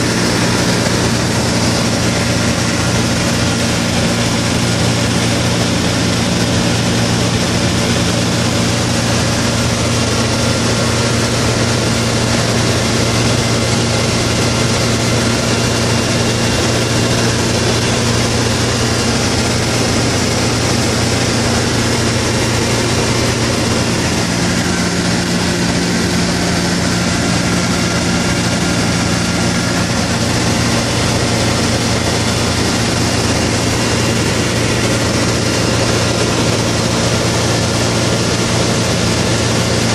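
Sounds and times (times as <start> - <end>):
propeller aircraft engine droning: 0.0 - 39.9
rushing air: 0.0 - 39.9.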